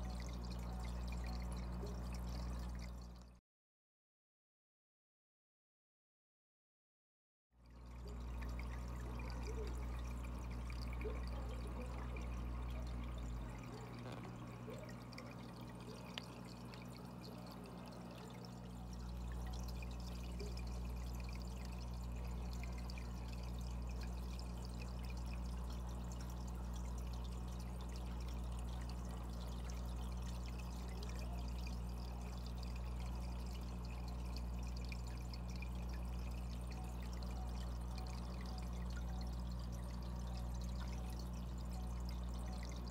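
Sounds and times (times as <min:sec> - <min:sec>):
pump hum: 0:00.0 - 0:03.4, 0:07.6 - 0:42.9
water trickling and splashing: 0:00.0 - 0:03.4, 0:07.6 - 0:42.9.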